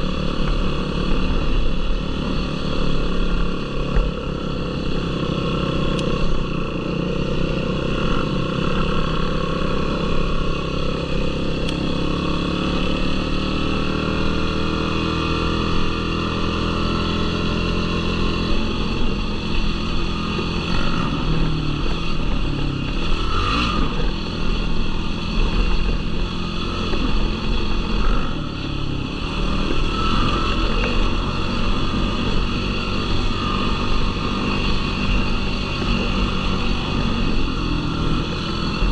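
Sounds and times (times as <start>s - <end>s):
quad engine revving while riding: 0.0s - 38.9s.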